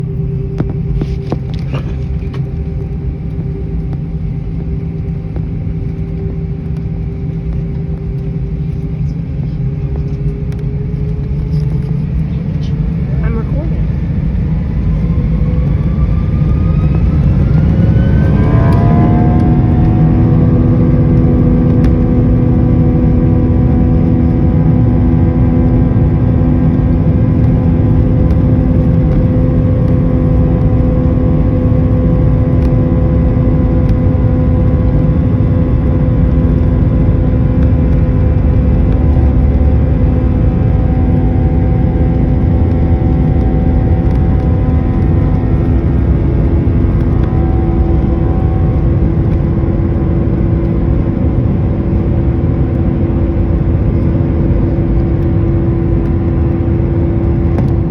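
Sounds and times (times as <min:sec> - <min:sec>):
heavy rumble: 0:00.0 - 0:57.9
jet engines whining: 0:00.0 - 0:57.9.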